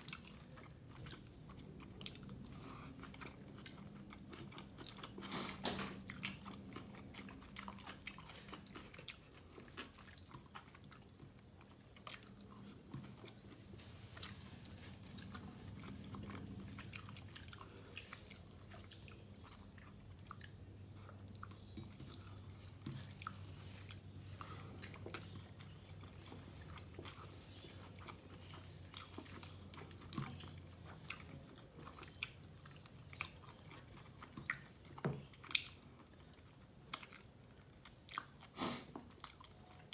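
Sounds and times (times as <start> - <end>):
faint low hum: 0.0 - 38.3
wet chewing: 0.0 - 39.9.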